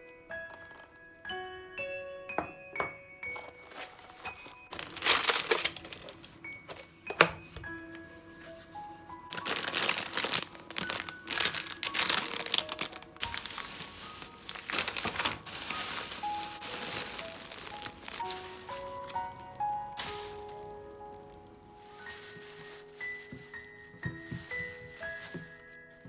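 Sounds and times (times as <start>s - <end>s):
crinkling and rustling: 0.0s - 1.6s, 2.4s - 26.0s
soft background music: 0.0s - 26.0s.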